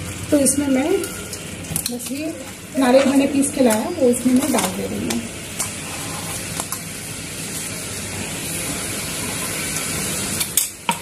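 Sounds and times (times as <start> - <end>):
sugar syrup boiling in a pan: 0.0 - 11.0.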